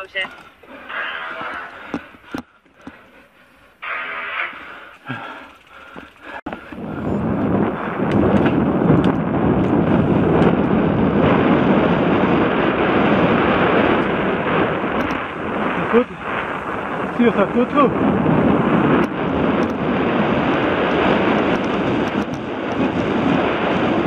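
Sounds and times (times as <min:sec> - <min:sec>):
bike tyres on dirt trail: 0:00.0 - 0:24.0
wind rushing over microphone: 0:03.8 - 0:24.0.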